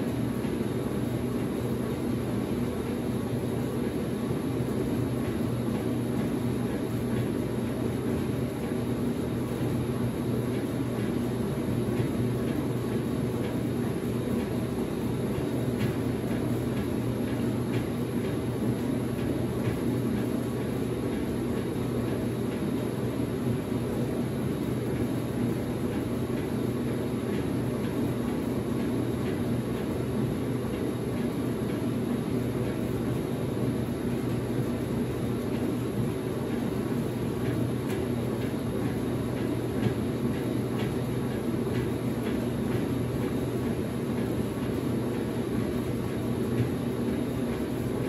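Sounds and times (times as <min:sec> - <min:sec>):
washing machine motor humming: 0:00.0 - 0:48.0.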